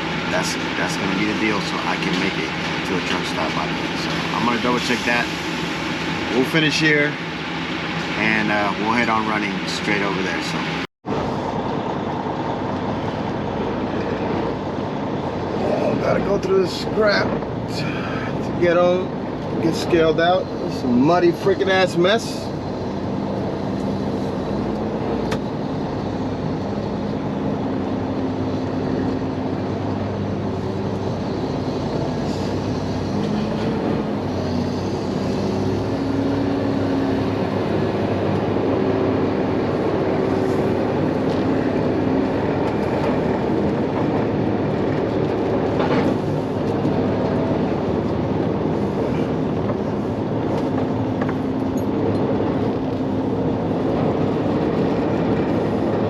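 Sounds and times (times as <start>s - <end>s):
diesel truck engine: 0.0s - 56.0s.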